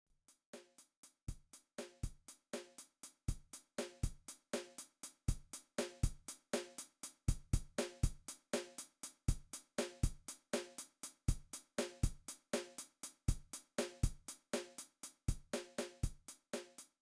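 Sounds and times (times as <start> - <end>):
drum beat: 1.3 - 16.8.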